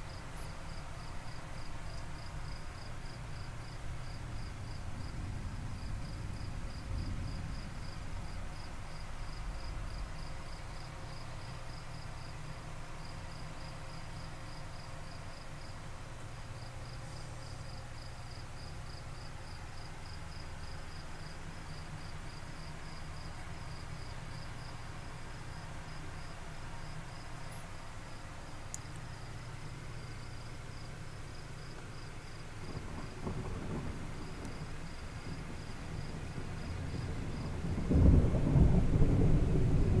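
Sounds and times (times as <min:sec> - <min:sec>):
cricket chirping: 0:00.0 - 0:40.0
low steady rumble: 0:00.0 - 0:40.0.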